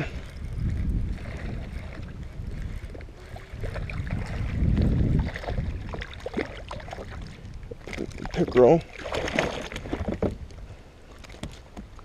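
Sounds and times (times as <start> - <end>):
water splashes: 0.0 - 12.0
wind rumbling on microphone: 0.0 - 12.0.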